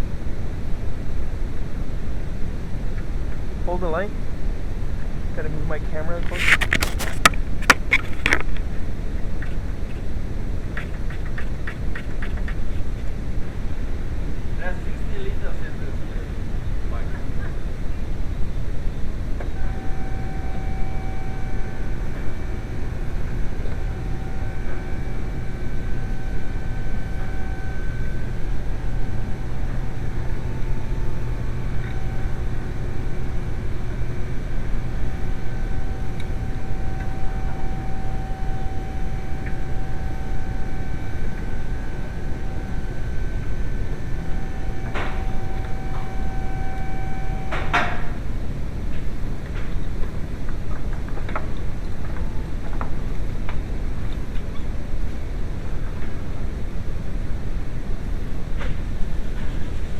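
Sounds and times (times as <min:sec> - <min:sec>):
faint high turbo whine: 0:00.0 - 0:59.9
car engine droning: 0:02.0 - 0:54.9.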